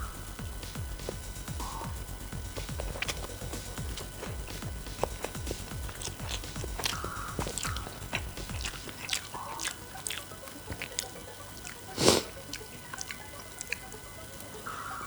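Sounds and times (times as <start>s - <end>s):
eating noodles mouth sounds: 0.0s - 15.0s.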